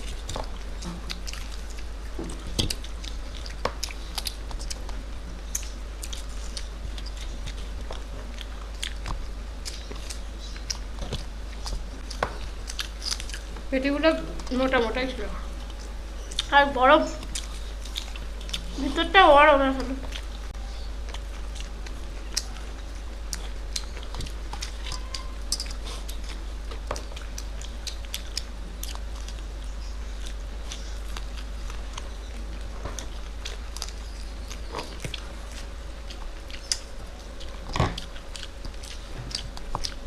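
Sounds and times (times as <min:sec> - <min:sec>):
chewing with mouth clicks: 0:00.0 - 0:14.6, 0:15.4 - 0:19.0, 0:19.8 - 0:40.0.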